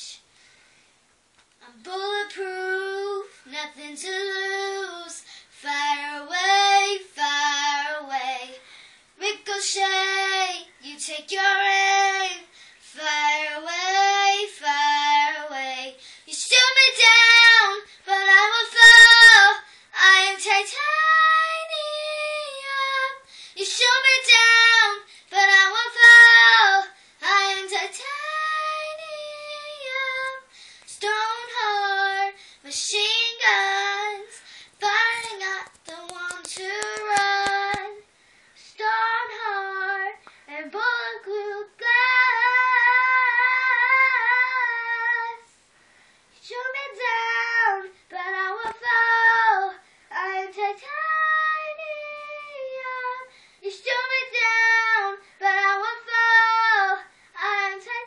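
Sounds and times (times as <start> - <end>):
girl singing unaccompanied: 0.0 - 0.3, 1.6 - 45.6, 46.3 - 58.0.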